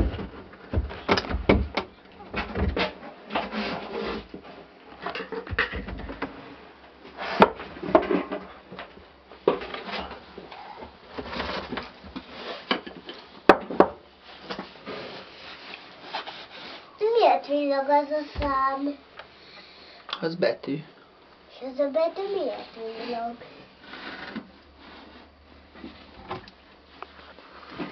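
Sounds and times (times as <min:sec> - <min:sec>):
rustling and shuffling: 0:00.0 - 0:20.5, 0:21.4 - 0:27.9.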